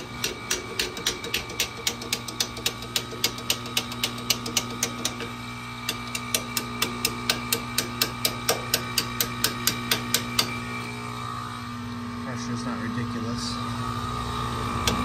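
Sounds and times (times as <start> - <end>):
compressor humming: 0.0 - 15.0.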